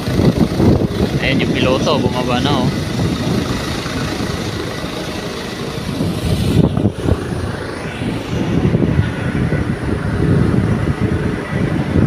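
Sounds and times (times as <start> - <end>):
distant helicopter running: 0.0 - 12.0
wind rumbling on microphone: 0.0 - 12.0.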